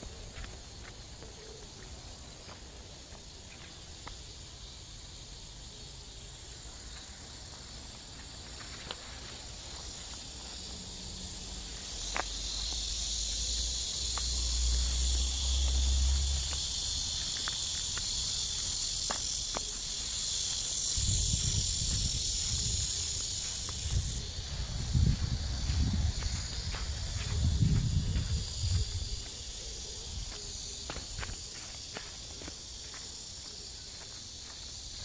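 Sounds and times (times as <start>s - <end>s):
high-pitched insect chorus: 0.0s - 35.0s.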